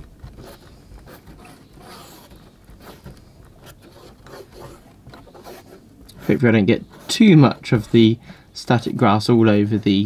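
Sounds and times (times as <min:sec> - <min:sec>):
paintbrush scrubbing glue: 0:00.0 - 0:08.2.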